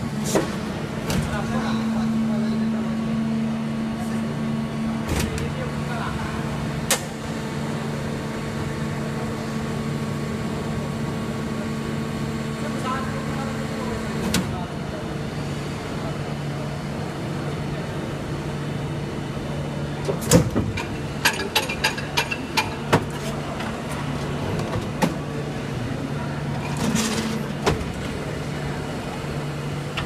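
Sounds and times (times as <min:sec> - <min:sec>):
injection moulding machine hum: 0:00.0 - 0:30.0.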